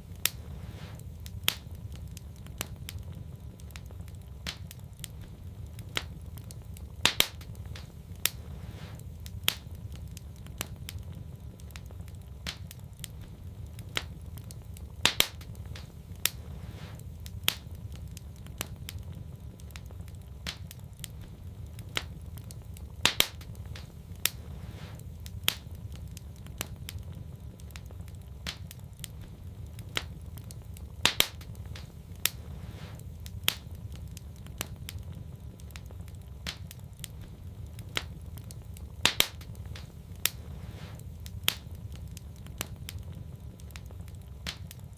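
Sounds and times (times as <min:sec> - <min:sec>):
low rumble of burning: 0:00.0 - 0:44.9
wood fire crackling: 0:00.0 - 0:44.9.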